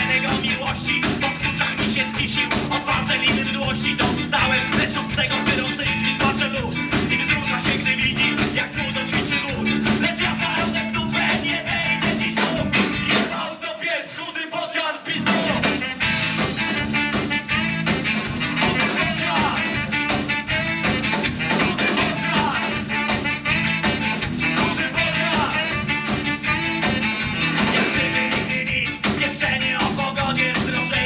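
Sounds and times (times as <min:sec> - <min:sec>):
live ska-punk band playing: 0:00.0 - 0:31.0.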